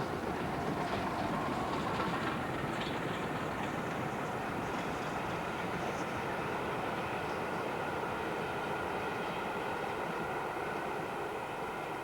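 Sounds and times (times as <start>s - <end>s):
steam train rumbling: 0.0s - 12.0s.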